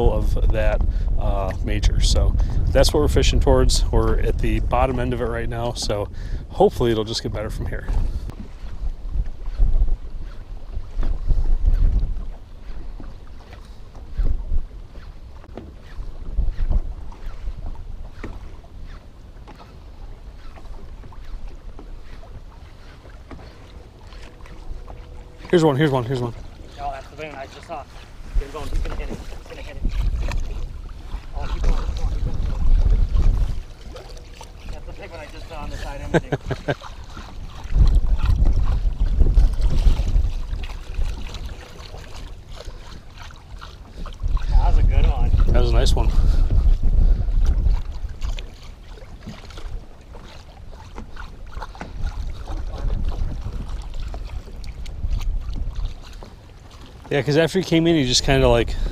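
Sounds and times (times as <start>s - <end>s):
waves slapping boat hull: 0.0s - 58.9s
wind rumbling on microphone: 0.0s - 58.9s.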